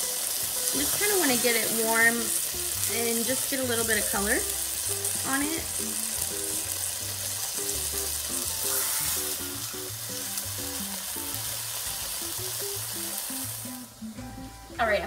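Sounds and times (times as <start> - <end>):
meat sizzling in a frying pan: 0.0 - 15.0
quiet background music: 0.0 - 15.0.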